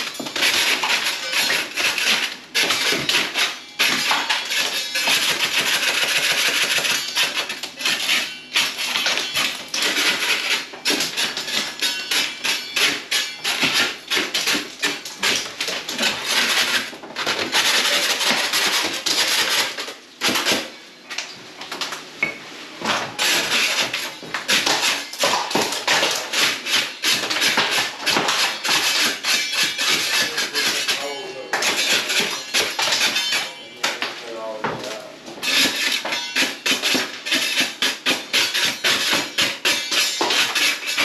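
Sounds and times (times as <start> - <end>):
hand scraper scraping plaster: 0.0 - 20.7, 23.2 - 34.1, 34.8 - 41.0.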